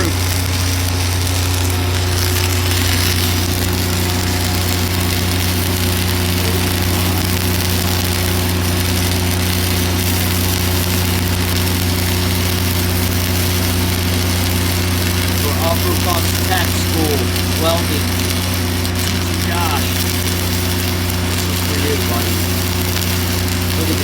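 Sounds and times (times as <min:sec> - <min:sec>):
constant hiss: 0:00.0 - 0:24.0
low machine hum: 0:00.0 - 0:24.0.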